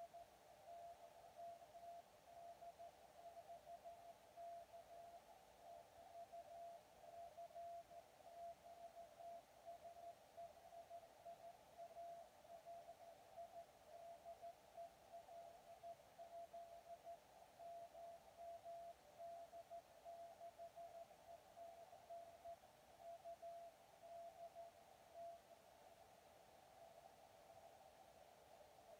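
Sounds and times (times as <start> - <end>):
receiver hiss: 0.0 - 28.9.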